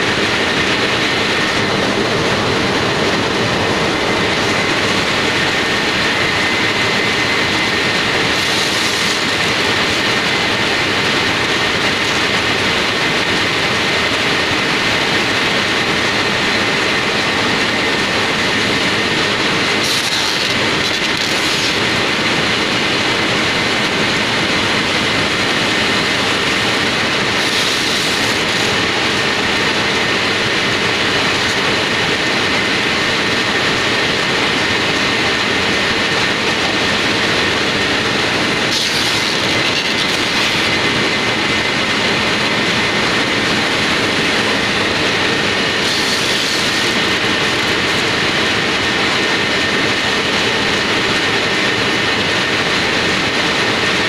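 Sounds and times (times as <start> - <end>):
roller machine din: 0.0 - 54.0.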